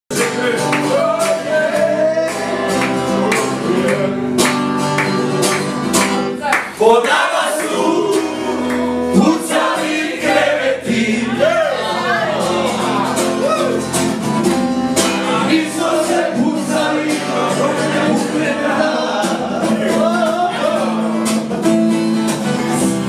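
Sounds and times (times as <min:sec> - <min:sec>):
several voices singing: 0:00.1 - 0:04.5, 0:06.6 - 0:14.1, 0:14.9 - 0:23.0
strummed acoustic guitar: 0:00.1 - 0:23.0.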